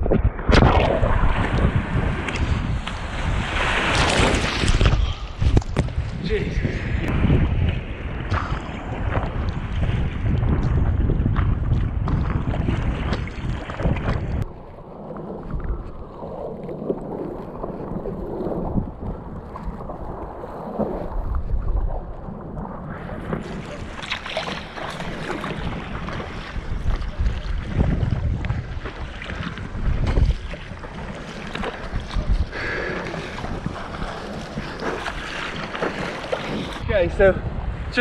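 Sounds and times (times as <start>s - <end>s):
water slapping against paddleboard: 0.0s - 6.2s, 7.0s - 14.5s, 16.7s - 36.9s
wind buffeting microphone: 0.0s - 38.0s.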